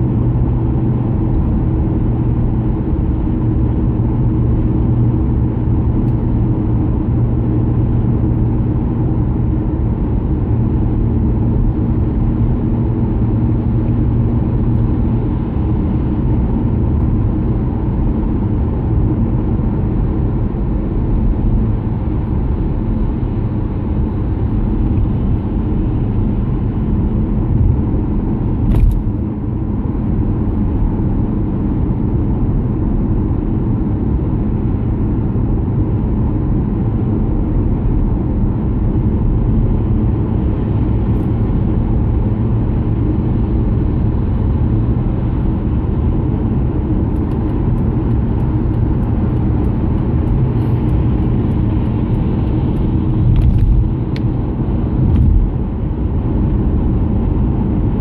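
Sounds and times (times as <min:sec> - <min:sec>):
car engine and tyres on wet road: 0:00.0 - 0:58.0.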